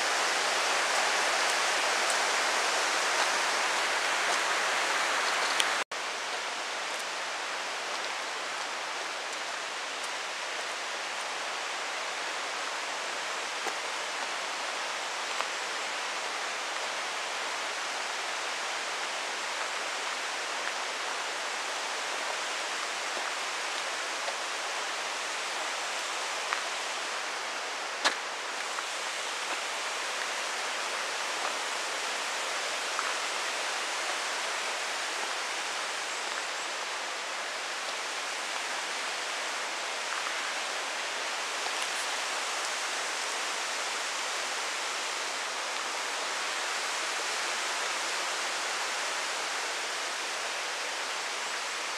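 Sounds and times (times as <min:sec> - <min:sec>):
flowing stream: 0:00.0 - 0:51.9.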